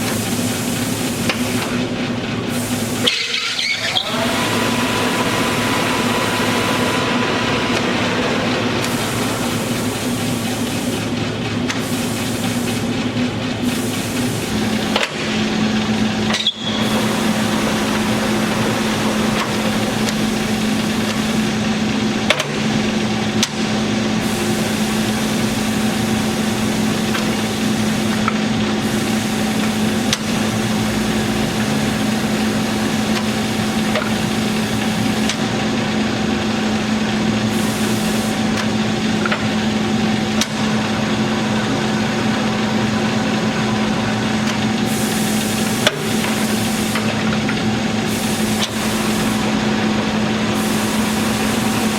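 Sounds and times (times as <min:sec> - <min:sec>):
lathe humming: 0:00.0 - 0:51.9.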